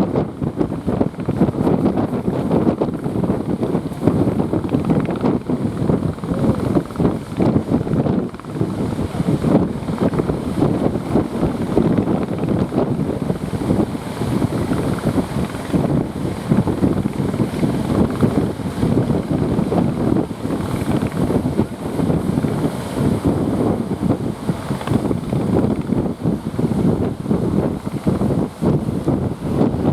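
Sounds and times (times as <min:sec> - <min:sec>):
heavy surf: 0:00.0 - 0:29.9
wind buffeting microphone: 0:00.0 - 0:29.9.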